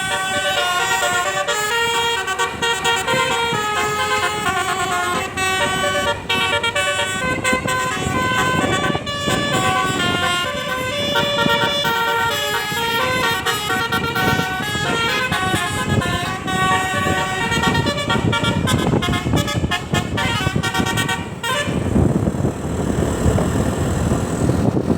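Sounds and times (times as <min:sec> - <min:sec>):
multi-tone bus horns playing melodies: 0:00.0 - 0:23.8.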